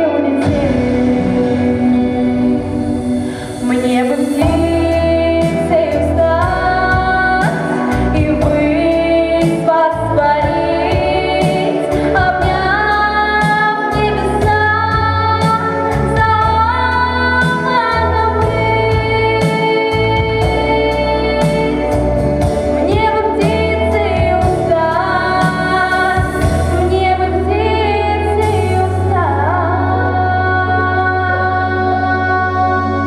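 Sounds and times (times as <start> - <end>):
instrumental backing track: 0.0 - 33.0
woman singing into microphone: 0.0 - 33.0.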